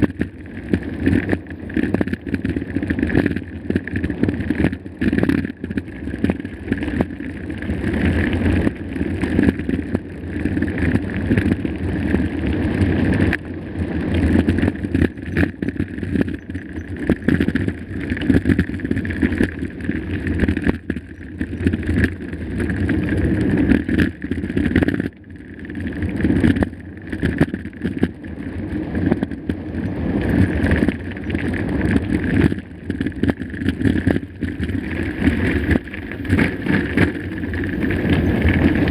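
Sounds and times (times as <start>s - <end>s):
tyres rumbling on dirt: 0.0s - 38.9s.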